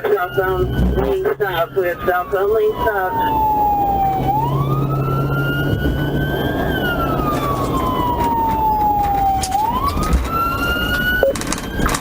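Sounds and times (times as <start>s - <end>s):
police siren wailing: 0.0s - 12.0s
road noise: 0.0s - 12.0s.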